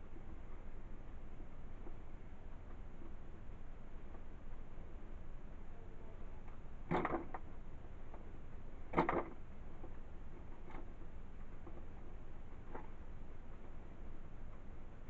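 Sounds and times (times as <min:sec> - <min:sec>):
faint clicks: 0:00.1 - 0:15.0.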